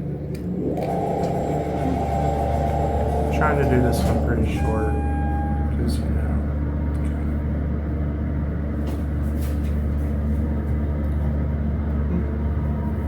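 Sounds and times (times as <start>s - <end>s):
elevator low hum: 0.0s - 13.0s.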